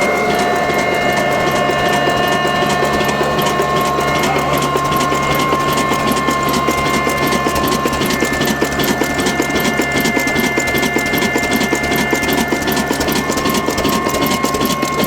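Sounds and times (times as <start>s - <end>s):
small engine clattering: 0.0s - 15.0s.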